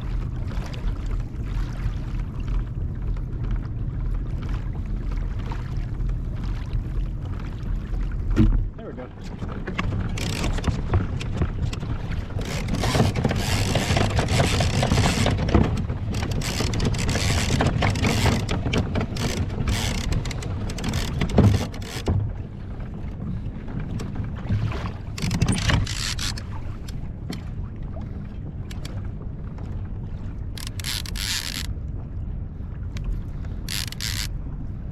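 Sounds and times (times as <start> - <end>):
water splashing against kayak hull: 0.0 - 34.9.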